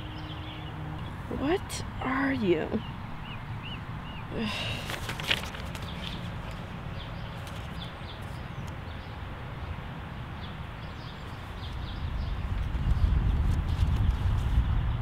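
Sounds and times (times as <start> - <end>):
birds chirping: 0.0 - 13.2.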